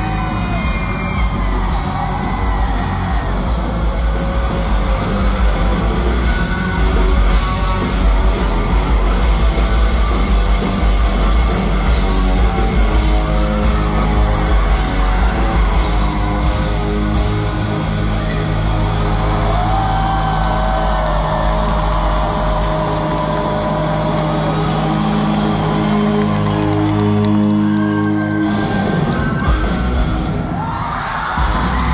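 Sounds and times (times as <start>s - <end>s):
live rock band playing: 0.0s - 30.6s.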